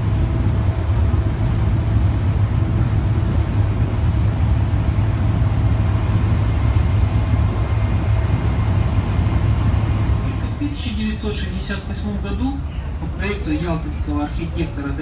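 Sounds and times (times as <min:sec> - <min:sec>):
boat engine low drone: 0:00.0 - 0:15.0.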